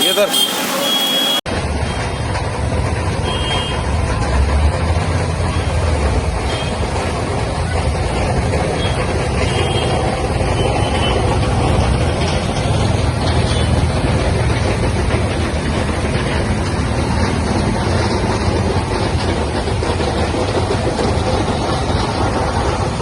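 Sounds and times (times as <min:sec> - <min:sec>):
heavy vehicle engine rumbling: 0:00.0 - 0:23.0.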